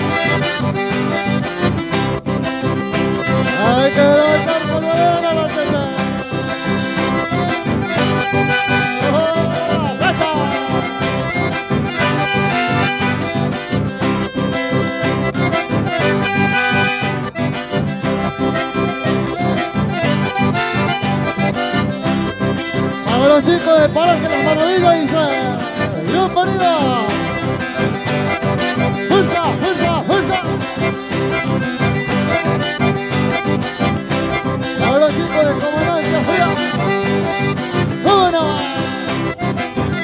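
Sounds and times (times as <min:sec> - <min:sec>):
accordion dance music: 0:00.0 - 0:40.0.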